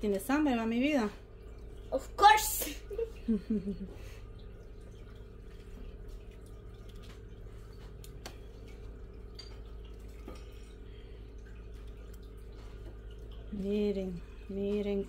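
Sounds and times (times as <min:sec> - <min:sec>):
liquid dripping and splashing: 0:00.0 - 0:15.0
steady low hum: 0:00.0 - 0:15.0.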